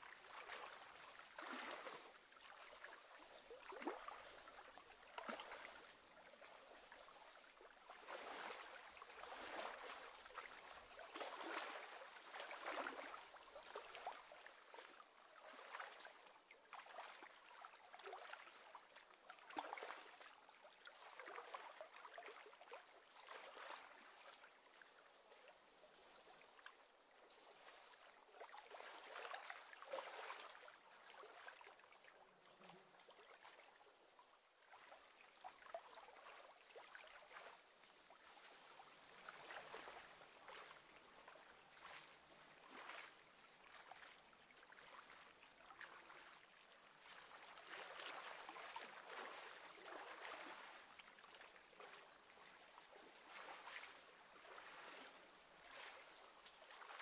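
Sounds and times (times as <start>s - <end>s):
small waves lapping and splashing: 0.0s - 57.0s.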